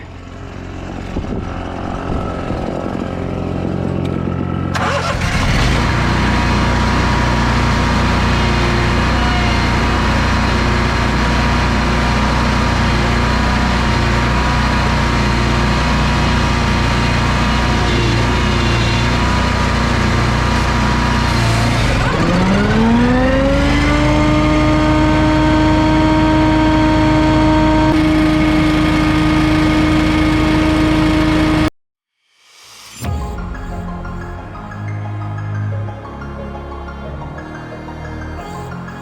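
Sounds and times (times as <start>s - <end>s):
leaf blower engine running: 0.0s - 31.7s.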